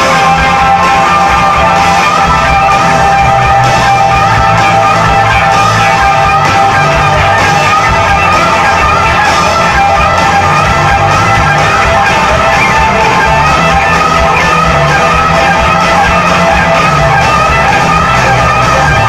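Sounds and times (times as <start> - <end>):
drums: 0.0 - 19.0
electric guitars: 0.0 - 19.0.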